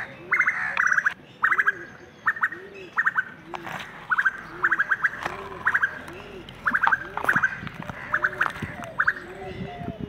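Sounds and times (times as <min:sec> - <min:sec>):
lower rising and falling bird call: 0:00.0 - 0:09.5
bird high chirps: 0:00.0 - 0:10.0.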